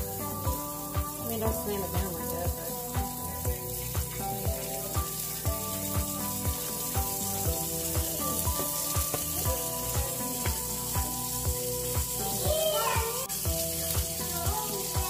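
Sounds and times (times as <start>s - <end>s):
background music with thumping beat: 0.0s - 15.0s
onions sizzling in oil: 0.0s - 15.0s.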